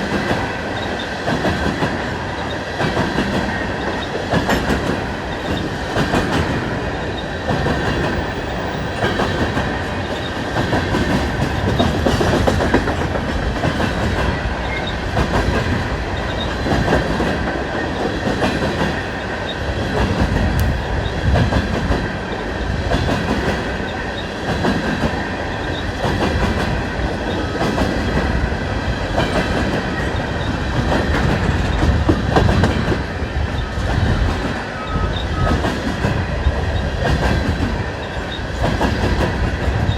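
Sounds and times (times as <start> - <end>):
clickety-clack over rail joints: 0.0 - 39.9
high ringing of wheels on rail: 0.0 - 39.9
train wheels rumbling: 0.0 - 39.9.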